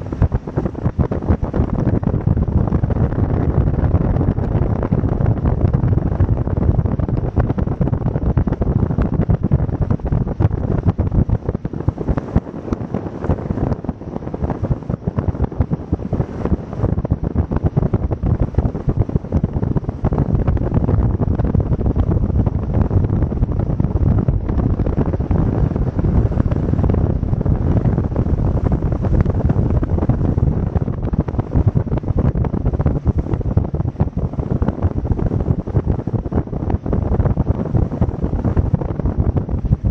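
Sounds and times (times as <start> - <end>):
motorboat running noise: 0.0 - 39.9
wind buffeting microphone: 0.0 - 39.9.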